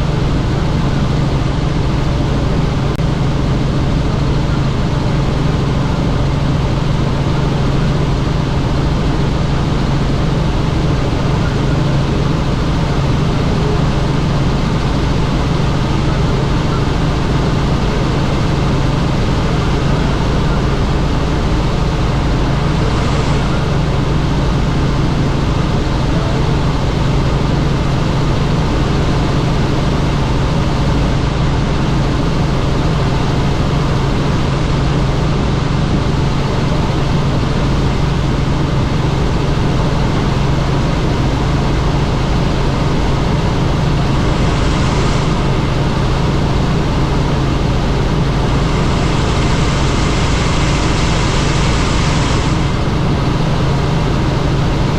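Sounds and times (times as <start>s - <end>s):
helicopter engine and rotor noise: 0.0s - 54.9s.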